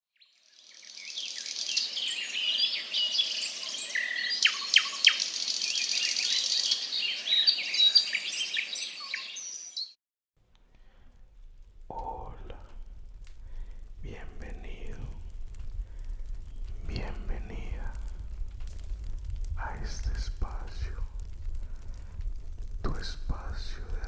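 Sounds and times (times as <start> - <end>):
small birds chirping: 0.1 - 10.0, 11.6 - 24.0.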